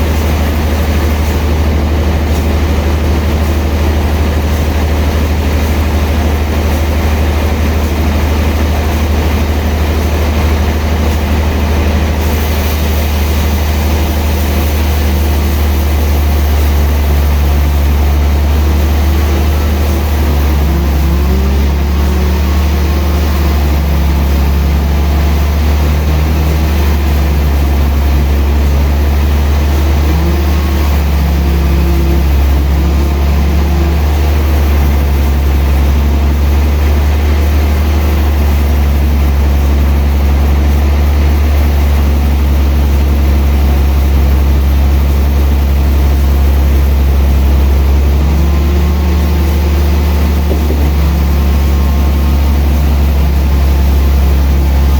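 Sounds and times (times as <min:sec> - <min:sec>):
sawmill machinery humming: 0:00.0 - 0:54.9.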